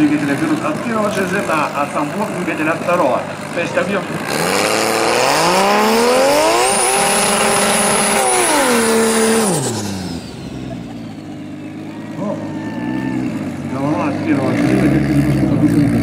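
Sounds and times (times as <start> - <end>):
engine revving at high revs: 0.0 - 16.0.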